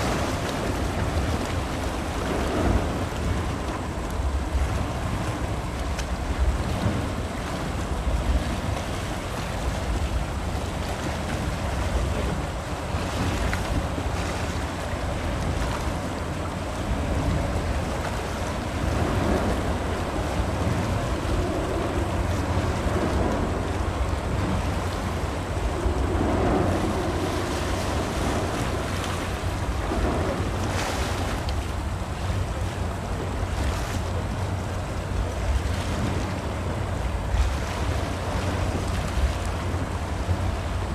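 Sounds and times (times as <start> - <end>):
low steady rumble: 0.0 - 40.9
waves washing: 0.0 - 40.9
wind buffeting microphone: 0.0 - 40.9.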